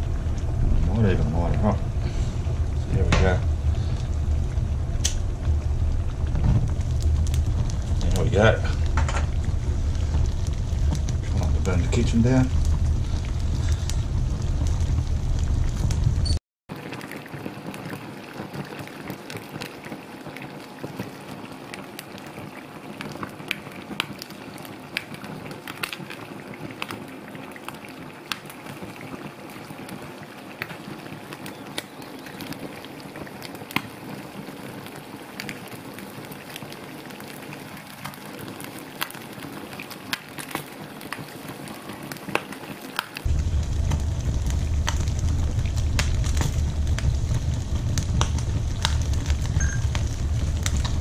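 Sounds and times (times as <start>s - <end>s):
chicken sizzling in frying pan: 0.0s - 51.0s.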